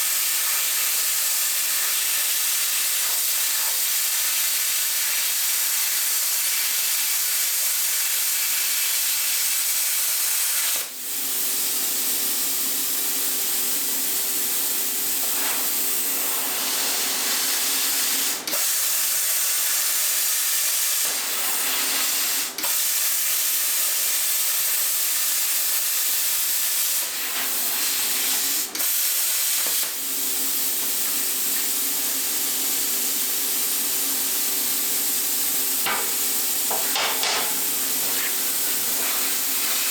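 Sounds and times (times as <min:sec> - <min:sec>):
plasma cutter hissing: 0:00.0 - 0:11.2, 0:13.6 - 0:39.9.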